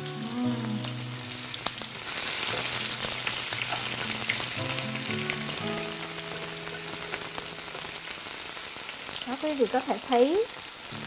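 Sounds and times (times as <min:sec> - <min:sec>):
shallots sizzling in hot oil: 0:00.0 - 0:11.0.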